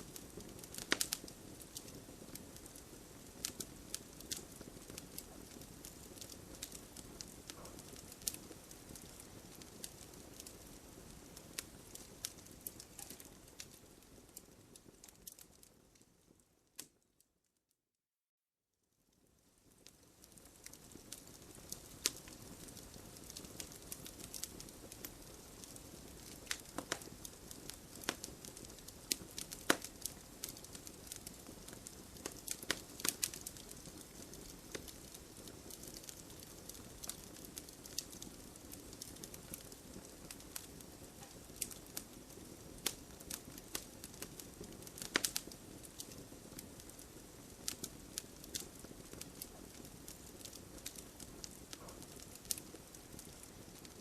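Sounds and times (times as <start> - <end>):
campfire crackling and popping: 0.0 - 17.0, 19.6 - 54.0.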